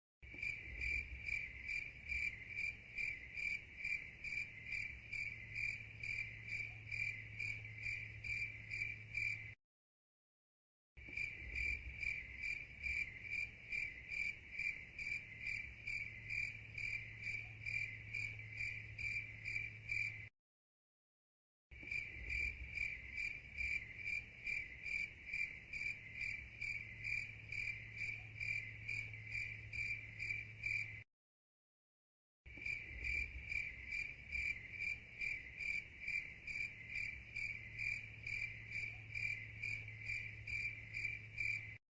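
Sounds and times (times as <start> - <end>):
cricket chirping: 0.3 - 9.6, 11.0 - 20.3, 21.8 - 31.0, 32.5 - 41.8.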